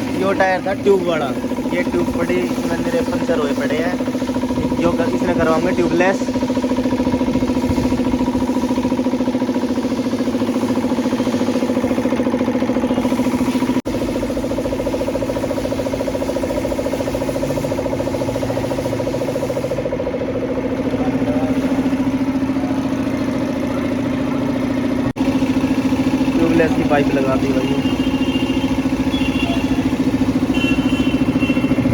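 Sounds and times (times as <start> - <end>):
machine motor humming: 0.0 - 31.9.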